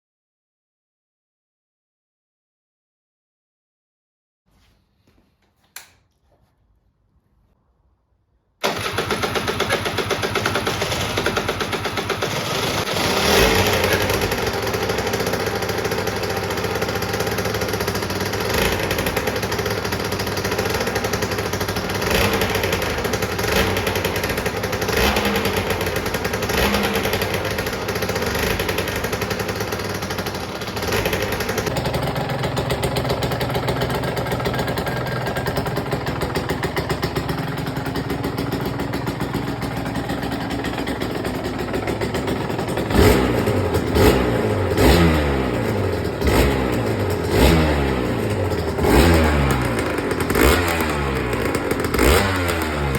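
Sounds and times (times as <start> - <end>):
motorcycle engine revving: 8.6 - 52.9.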